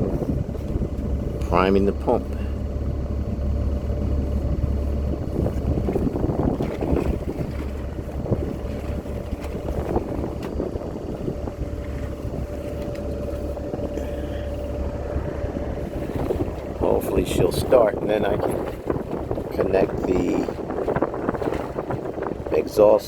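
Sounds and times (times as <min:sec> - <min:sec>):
low engine hum: 0:00.0 - 0:23.0
wind noise on microphone: 0:00.0 - 0:23.0.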